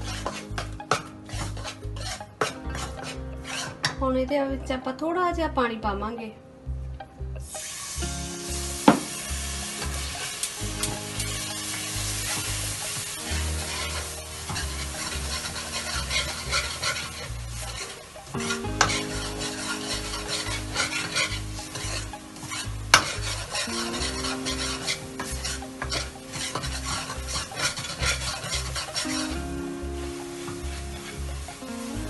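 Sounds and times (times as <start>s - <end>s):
mixture sizzling: 0.0s - 3.9s, 7.4s - 32.0s
ladle scraping metal pan: 0.0s - 4.0s, 9.1s - 32.0s.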